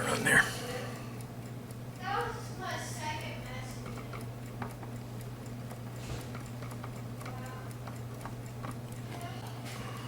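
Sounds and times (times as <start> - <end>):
alarm clock ticking: 1.2 - 9.6.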